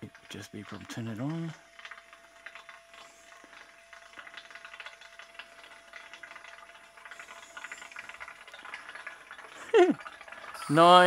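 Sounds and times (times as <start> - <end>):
fizzing and crackling: 0.0 - 11.0.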